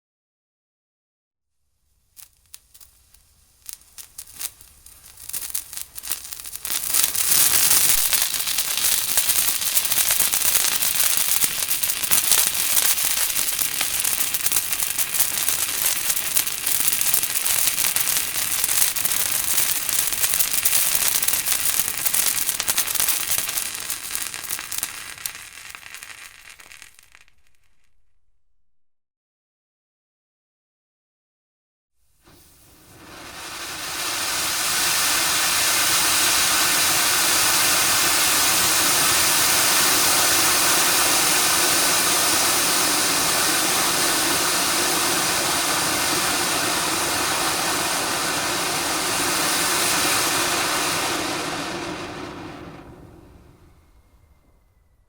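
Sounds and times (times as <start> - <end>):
firecrackers popping: 1.9 - 28.4, 32.2 - 54.0.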